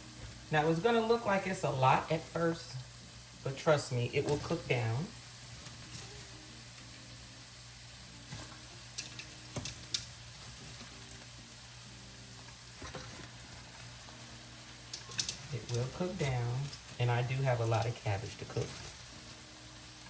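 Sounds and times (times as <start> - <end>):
cabbage sizzling in a skillet: 0.0 - 20.0.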